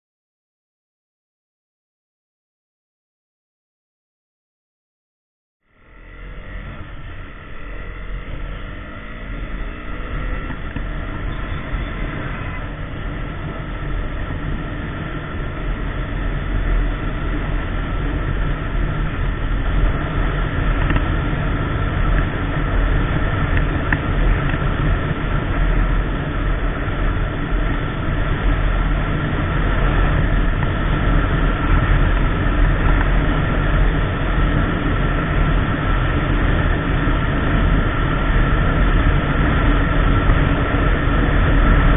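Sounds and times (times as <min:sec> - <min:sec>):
motorcycle engine accelerating: 0:05.6 - 0:41.9
wind rush on microphone: 0:05.9 - 0:41.9.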